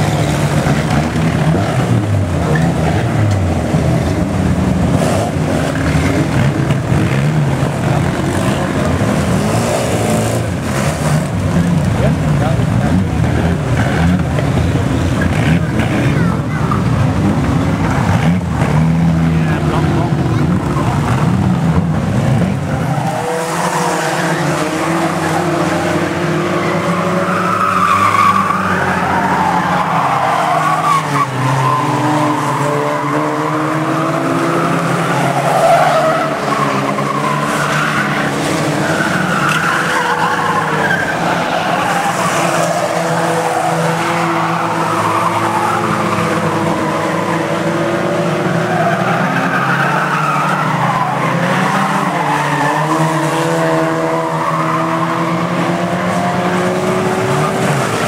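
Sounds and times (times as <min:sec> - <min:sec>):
racing car engines revving: 0:00.0 - 0:58.0
tyres skidding: 0:00.0 - 0:58.0.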